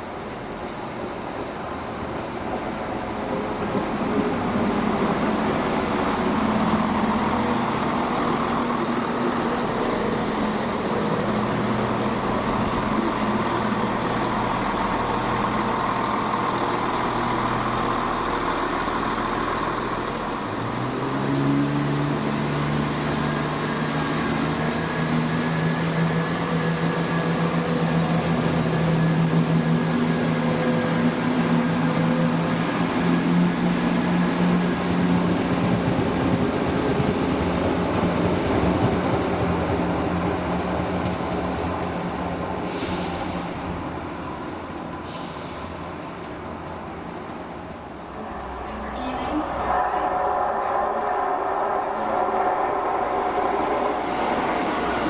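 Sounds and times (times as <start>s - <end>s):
diesel train engines running: 0.0s - 55.0s.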